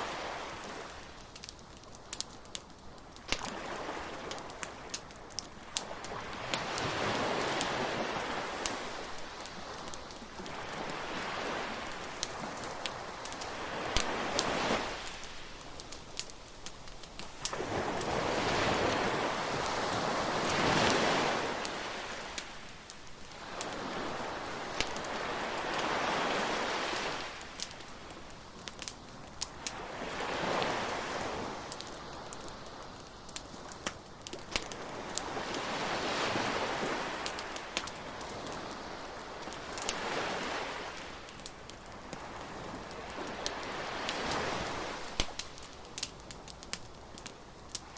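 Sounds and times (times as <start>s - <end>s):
waves washing in: 0.0s - 1.2s, 3.2s - 15.9s, 17.2s - 28.4s, 29.5s - 32.7s, 34.6s - 46.1s
bonfire crackling and popping: 0.0s - 47.9s.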